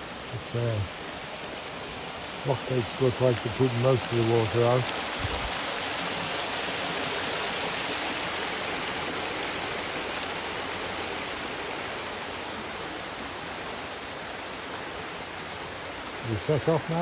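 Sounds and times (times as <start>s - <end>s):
water rushing through lock gates: 0.0s - 17.0s.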